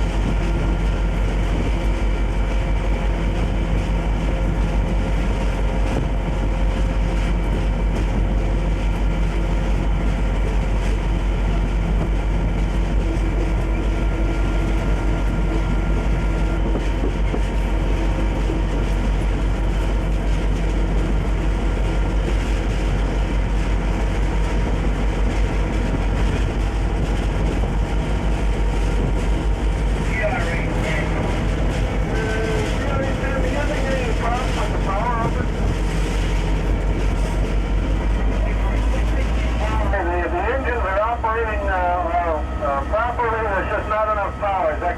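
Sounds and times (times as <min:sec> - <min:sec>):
diesel locomotive engine drone: 0:00.0 - 0:44.9
train running on rails: 0:00.0 - 0:44.9.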